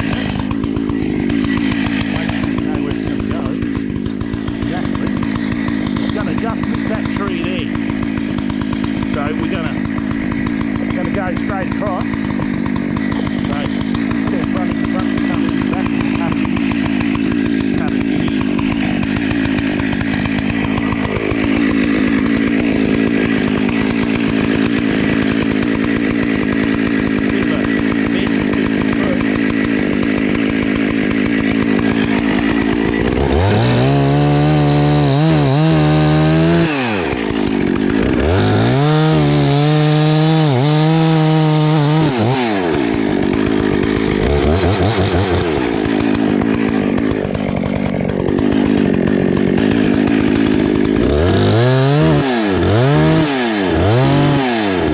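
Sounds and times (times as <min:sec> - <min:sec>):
chainsaw cutting tree trunk: 0:00.0 - 0:54.9.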